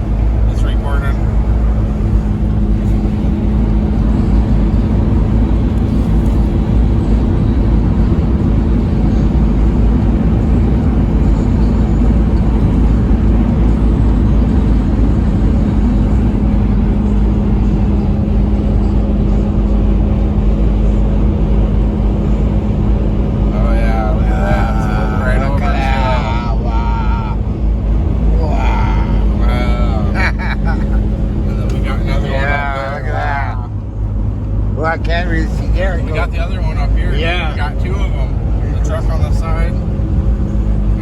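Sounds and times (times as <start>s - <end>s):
constant hum: 0.0s - 41.0s
road and engine rumble: 0.0s - 41.0s.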